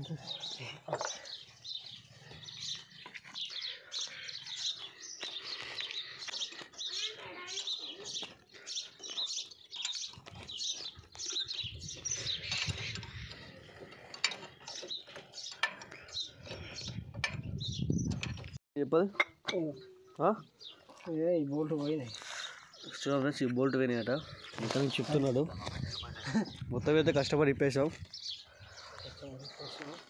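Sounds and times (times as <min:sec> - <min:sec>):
small birds chirping: 0:00.0 - 0:18.6, 0:19.6 - 0:30.0.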